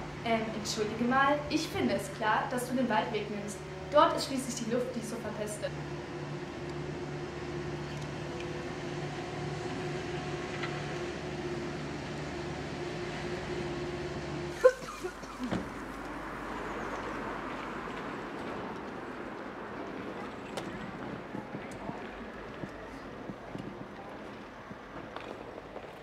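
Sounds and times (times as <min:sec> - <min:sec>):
hissy background noise: 0:00.0 - 0:26.0
steady mechanical hum: 0:00.0 - 0:26.0.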